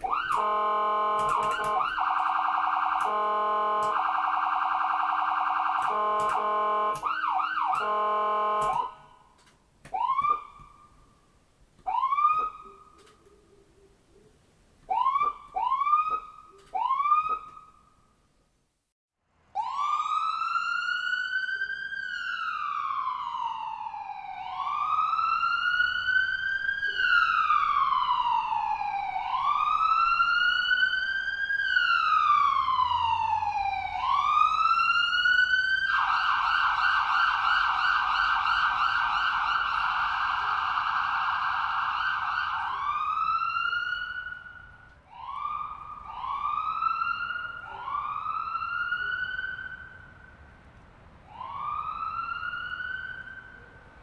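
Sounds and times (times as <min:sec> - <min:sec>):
electronic ambulance siren: 0:00.0 - 0:09.3, 0:09.9 - 0:11.0, 0:11.8 - 0:13.1, 0:14.9 - 0:17.8, 0:19.6 - 0:50.2, 0:51.3 - 0:53.7.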